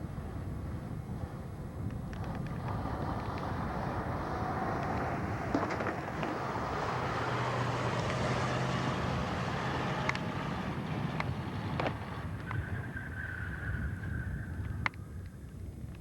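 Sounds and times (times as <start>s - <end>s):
vehicle engine and road noise: 0.0s - 16.0s
wind on microphone: 0.0s - 16.0s.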